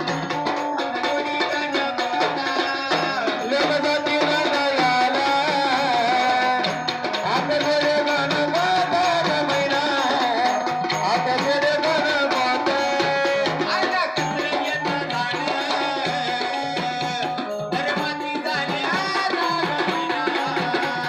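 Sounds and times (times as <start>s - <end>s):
hand drum beat: 0.0s - 21.0s
keyboard melody: 0.0s - 21.0s.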